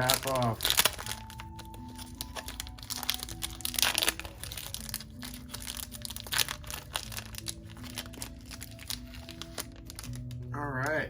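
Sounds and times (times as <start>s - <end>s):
plastic wrap crinkling and tearing: 0.0s - 11.0s
soft background music: 0.0s - 11.0s.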